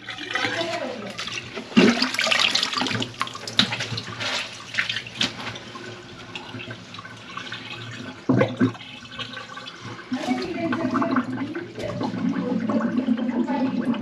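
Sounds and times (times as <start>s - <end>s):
water splashing in a sink: 0.0s - 14.0s.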